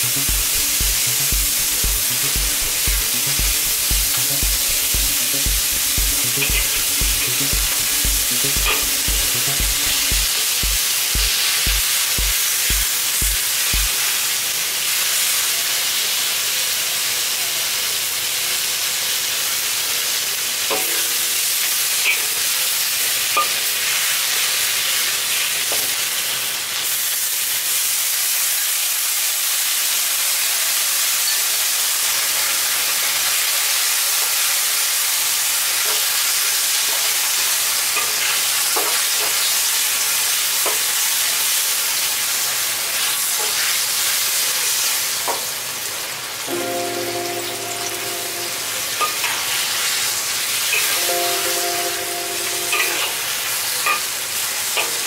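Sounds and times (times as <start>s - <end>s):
onions sizzling in a wok: 0.0s - 55.0s.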